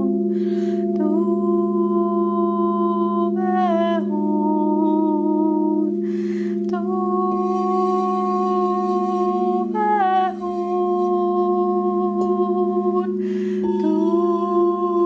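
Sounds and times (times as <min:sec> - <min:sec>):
crystal singing bowls droning: 0:00.0 - 0:15.0
woman singing held tones: 0:00.0 - 0:15.0.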